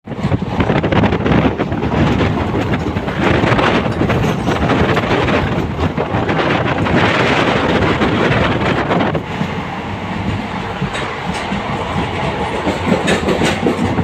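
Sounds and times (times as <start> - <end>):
train wheels rumbling on track: 0.0 - 14.0
wind buffeting microphone: 0.0 - 14.0.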